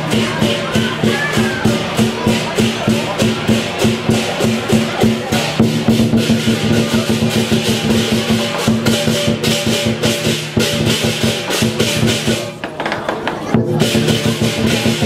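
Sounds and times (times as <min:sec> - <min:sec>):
crashing cymbals: 0:00.0 - 0:12.6, 0:13.8 - 0:15.0
drum strokes: 0:00.0 - 0:15.0.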